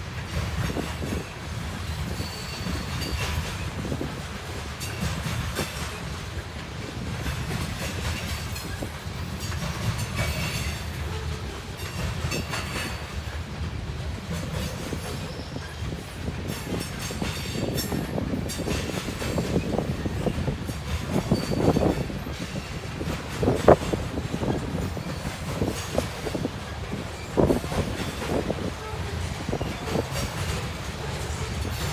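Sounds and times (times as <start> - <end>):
train rumbling past: 0.0 - 31.9
wheels clacking over rail joints: 0.0 - 31.9.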